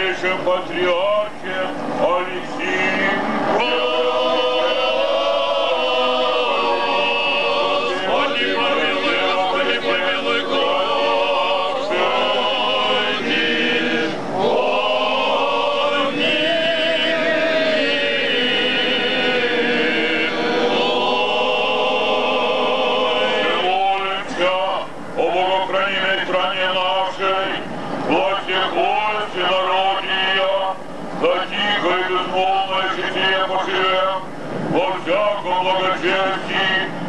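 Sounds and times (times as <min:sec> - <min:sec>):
choir singing chant: 0:00.0 - 0:36.9.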